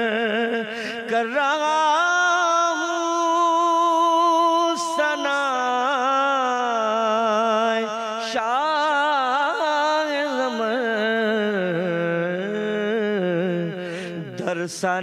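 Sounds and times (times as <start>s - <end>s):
man singing ornamented notes: 0.0s - 15.0s.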